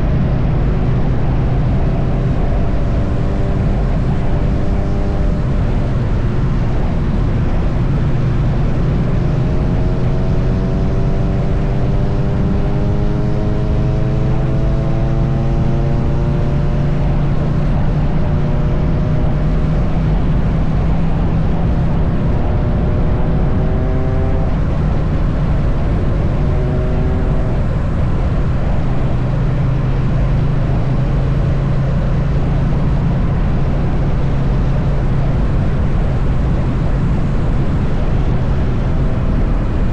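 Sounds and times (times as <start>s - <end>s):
motorcycle engine cruising: 0.0s - 39.9s
wind and road rush: 0.0s - 39.9s.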